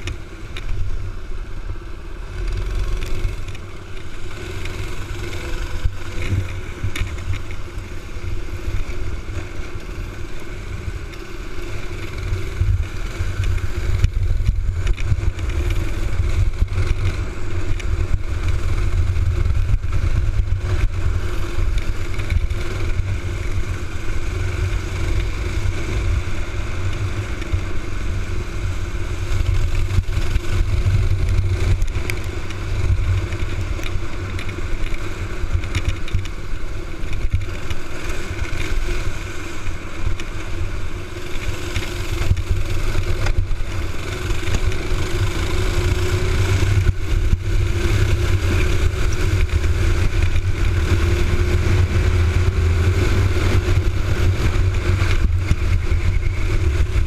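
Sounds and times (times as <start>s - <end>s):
racing kart engine: 0.0s - 57.0s
wind rumble on camera: 0.0s - 57.0s.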